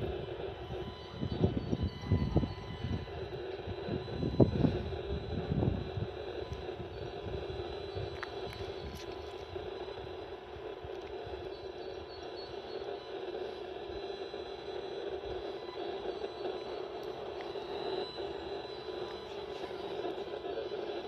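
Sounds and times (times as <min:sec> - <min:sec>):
meter speaker buzzing hiss: 0:00.0 - 0:21.0.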